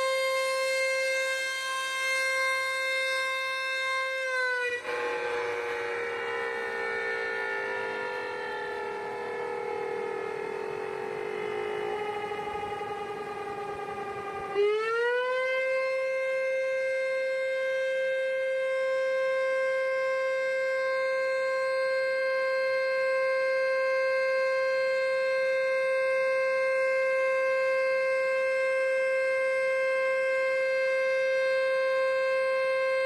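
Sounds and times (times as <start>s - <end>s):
warning siren: 0.0s - 33.0s.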